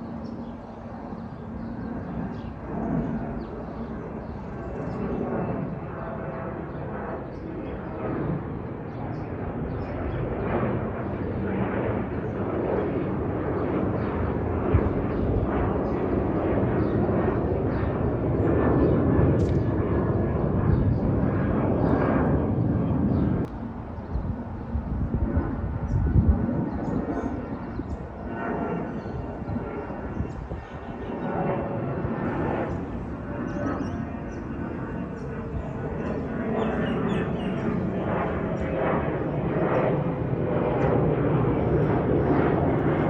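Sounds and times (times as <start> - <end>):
jet airliner engines rumbling: 0.0 - 43.0.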